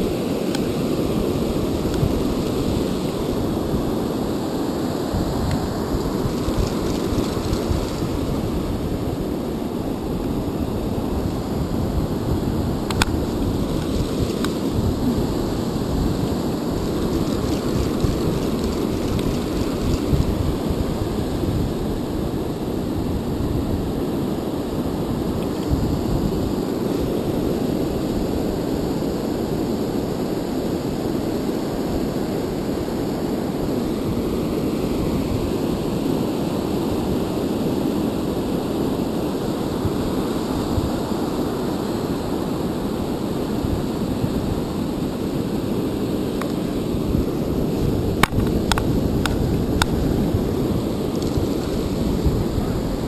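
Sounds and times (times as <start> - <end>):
surf breaking on beach: 0.0 - 53.0
wind buffeting microphone: 0.0 - 53.0.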